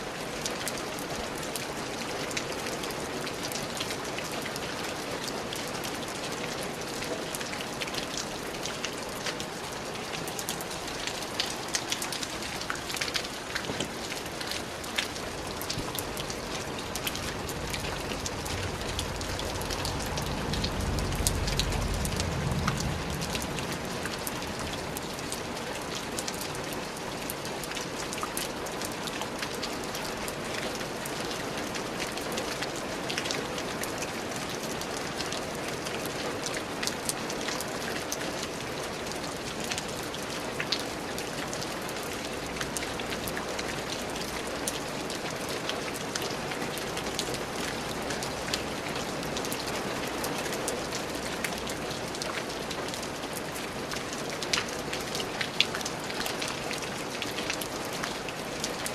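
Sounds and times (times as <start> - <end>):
rain drops pattering: 0.0 - 58.9.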